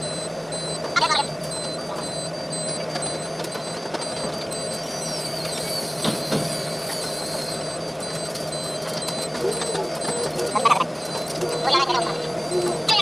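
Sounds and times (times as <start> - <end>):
high electronic beep: 0.0 - 13.0
machinery hum: 0.0 - 13.0.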